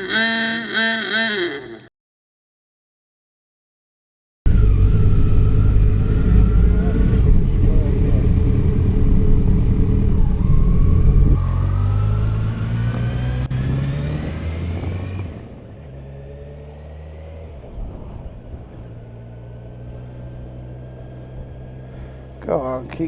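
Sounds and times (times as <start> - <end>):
vehicle engine accelerating: 4.5 - 23.0.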